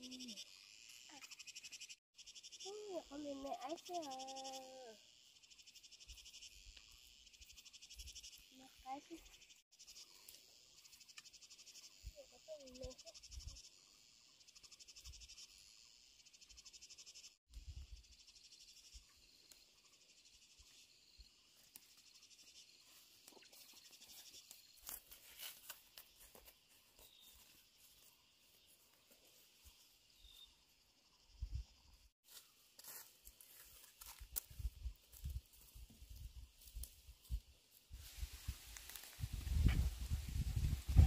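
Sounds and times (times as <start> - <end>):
insects chirring: 0.0 - 41.0.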